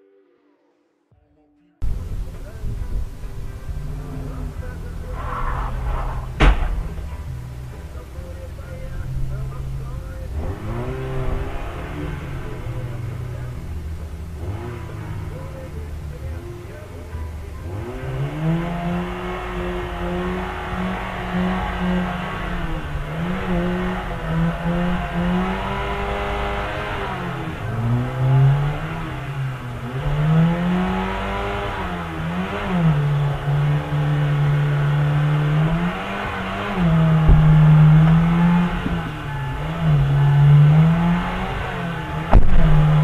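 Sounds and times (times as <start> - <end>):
car engine revving: 1.8 - 43.0.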